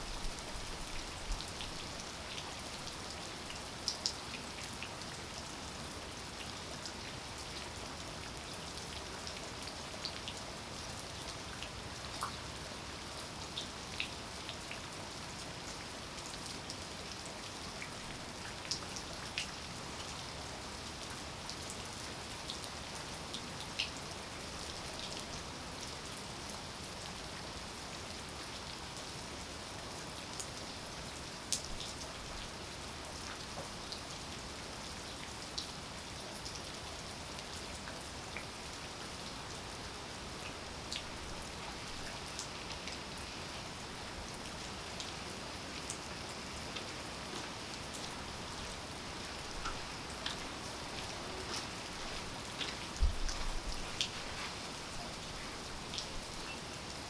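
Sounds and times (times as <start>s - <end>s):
raindrops ticking on surfaces: 0.0s - 57.0s
steady rainfall: 0.0s - 57.0s.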